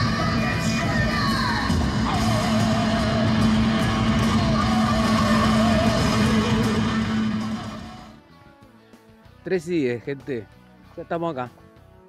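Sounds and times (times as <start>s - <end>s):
rock guitar music: 0.0s - 12.0s.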